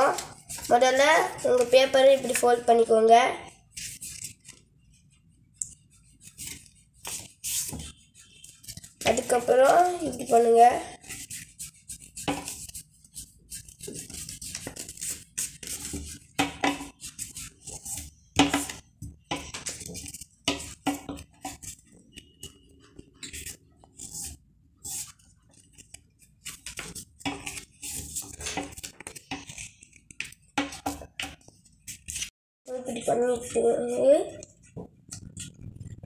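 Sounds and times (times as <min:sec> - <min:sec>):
paper being folded and creased: 0:00.0 - 0:02.6, 0:03.7 - 0:32.3.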